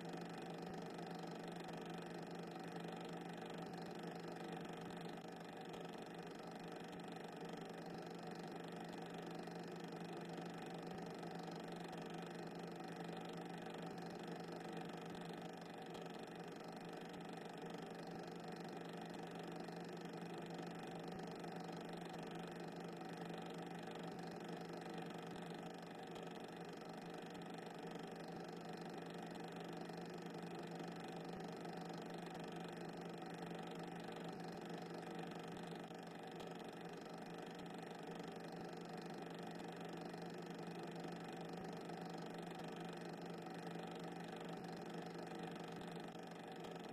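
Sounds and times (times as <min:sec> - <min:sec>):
constant low hum: 0:00.0 - 0:46.9.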